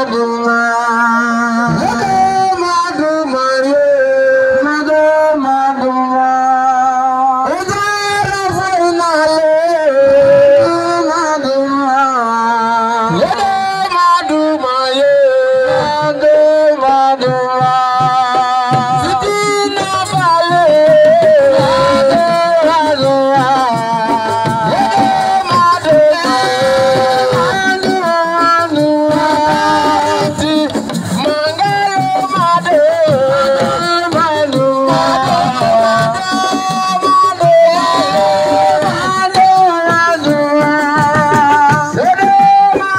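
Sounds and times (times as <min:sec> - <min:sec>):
hand drums: 0:00.0 - 0:05.8, 0:07.5 - 0:42.9.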